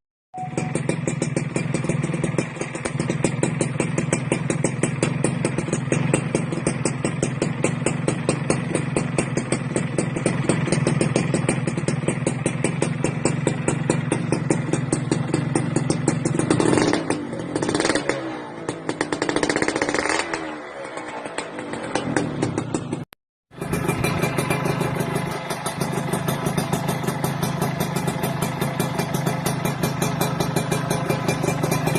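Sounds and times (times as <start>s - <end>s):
two-stroke engine idling: 0.4s - 31.9s.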